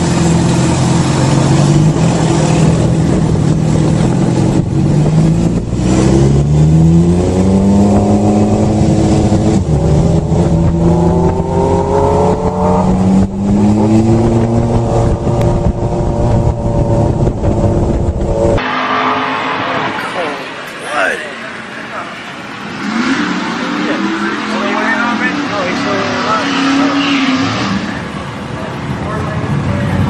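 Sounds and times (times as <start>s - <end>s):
motorcycle engine accelerating: 0.0s - 28.2s.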